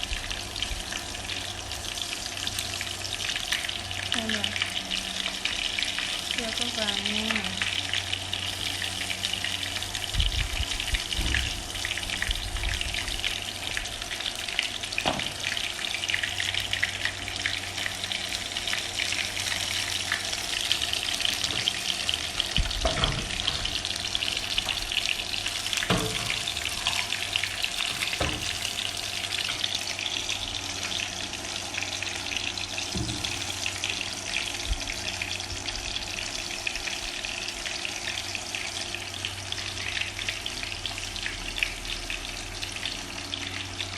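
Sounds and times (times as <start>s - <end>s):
shrimp deep-frying in oil: 0.0s - 43.9s.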